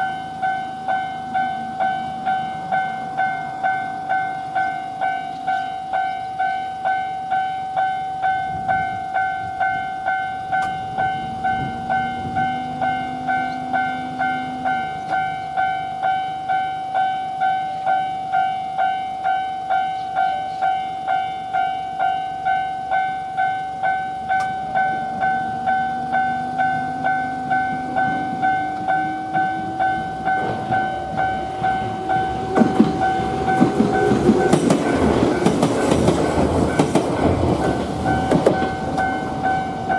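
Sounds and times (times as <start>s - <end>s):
train rumble: 0.0s - 6.9s, 7.8s - 18.8s, 19.6s - 39.9s
level crossing warning bell: 0.0s - 39.9s.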